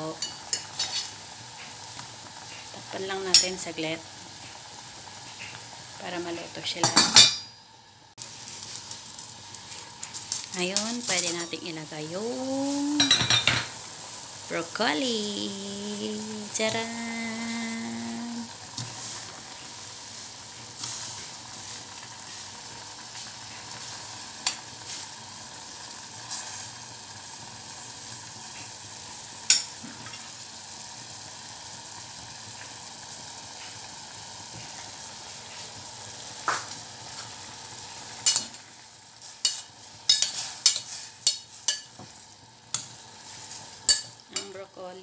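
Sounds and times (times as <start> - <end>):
pot simmering with steady hiss: 0.0 - 45.0.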